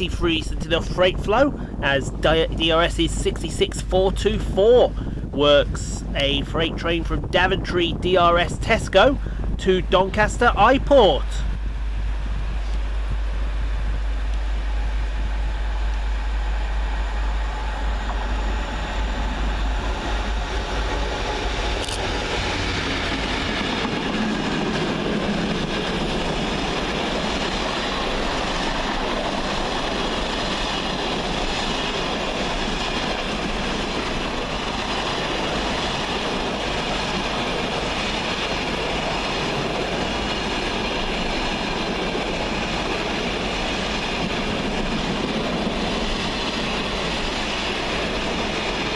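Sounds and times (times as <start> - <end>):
diesel locomotive engine rumble: 0.0 - 48.9.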